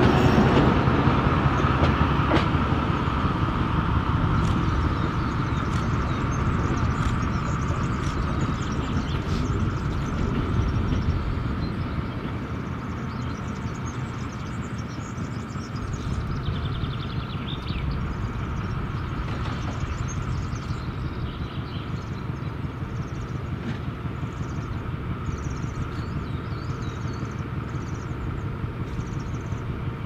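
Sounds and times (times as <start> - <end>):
locomotive diesel engine rumbling: 0.0 - 30.0.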